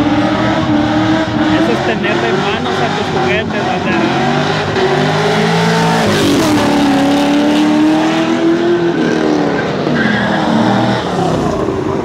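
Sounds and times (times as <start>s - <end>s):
car engine under hard throttle: 0.0s - 12.0s.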